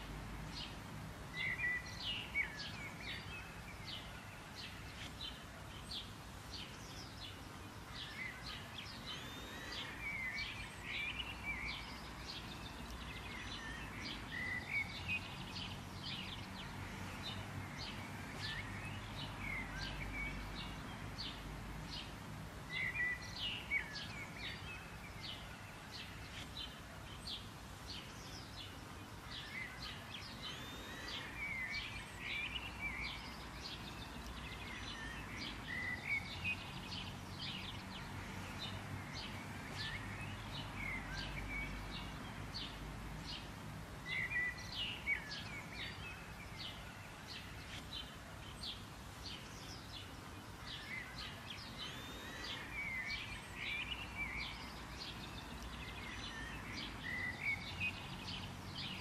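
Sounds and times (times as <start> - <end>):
songbirds chirping and twittering: 0.0 - 59.0.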